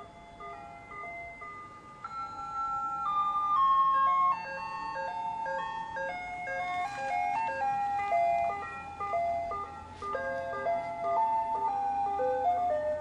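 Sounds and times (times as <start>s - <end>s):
chime-like jingle melody: 0.0s - 13.0s.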